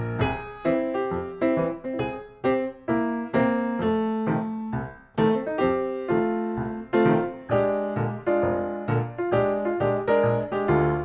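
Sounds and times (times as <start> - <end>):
light piano tune: 0.0 - 11.0.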